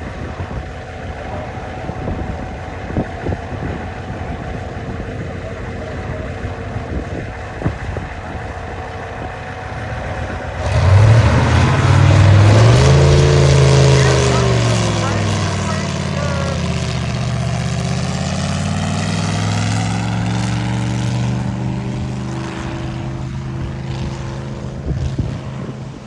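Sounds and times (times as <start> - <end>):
truck engine idling and revving: 0.0 - 26.0.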